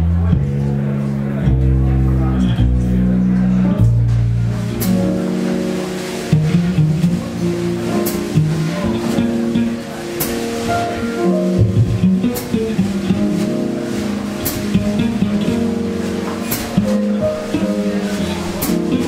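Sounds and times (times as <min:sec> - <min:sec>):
keyboard chords: 0:00.0 - 0:19.0
plucked double bass: 0:00.0 - 0:19.0.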